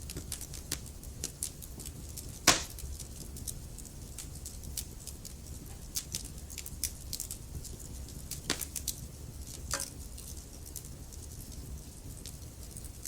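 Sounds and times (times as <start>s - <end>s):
logs crackling and popping: 0.0s - 13.0s
low rumble of fire: 0.0s - 13.0s.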